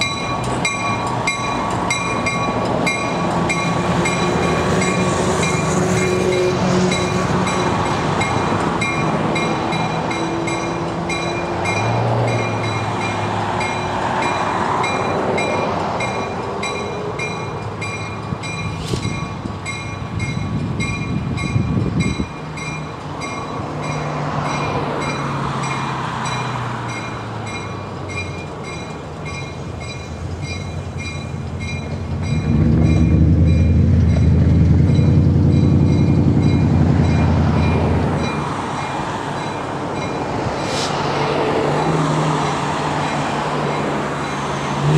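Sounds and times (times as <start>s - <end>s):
diesel locomotive engine: 0.0s - 44.9s.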